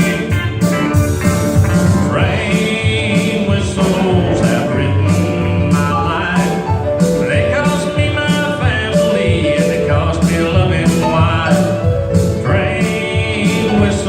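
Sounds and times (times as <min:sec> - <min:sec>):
bass line: 0:00.0 - 0:14.0
man singing lead: 0:00.0 - 0:14.0
steady drum beat: 0:00.0 - 0:14.0.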